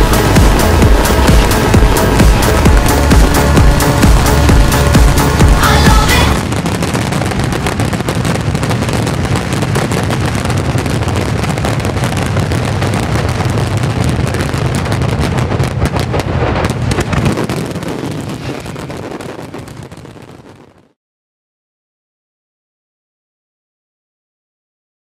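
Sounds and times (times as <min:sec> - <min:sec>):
firecrackers crackling: 0:00.0 - 0:21.0.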